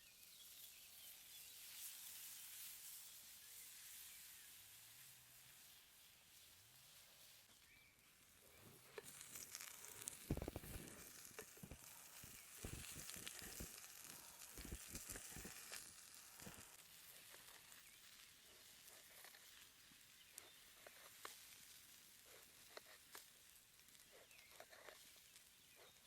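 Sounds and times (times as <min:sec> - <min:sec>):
vegetables sizzling on hot stone: 0:00.1 - 0:26.0.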